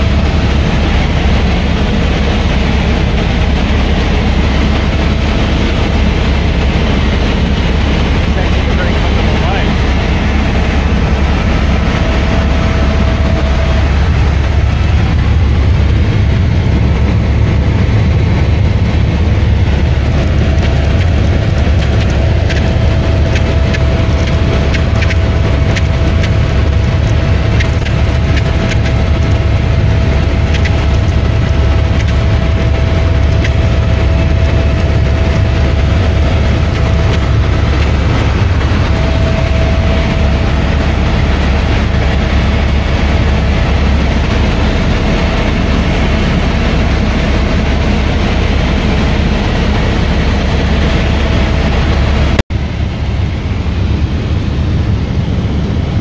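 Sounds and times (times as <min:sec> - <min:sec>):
helicopter rotor and engine rumble: 0:00.0 - 0:56.0
high whine: 0:00.0 - 0:56.0.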